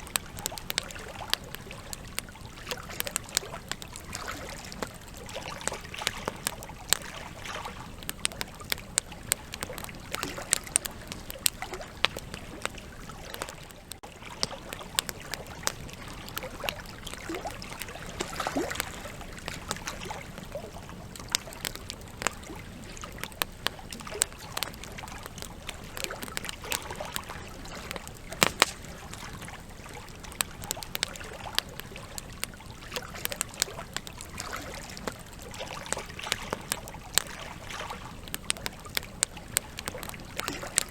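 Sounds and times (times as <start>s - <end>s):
campfire crackling and popping: 0.0s - 40.9s
soft fire hiss: 0.0s - 40.9s.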